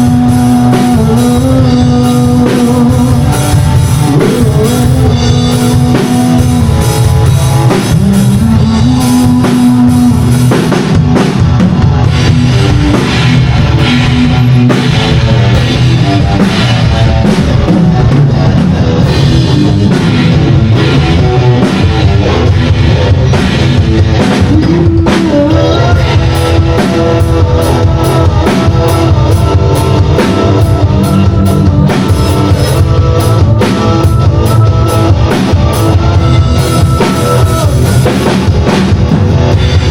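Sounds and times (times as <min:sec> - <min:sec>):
drum kit steady beat: 0:00.0 - 0:39.9
rock band playing loudly: 0:00.0 - 0:39.9.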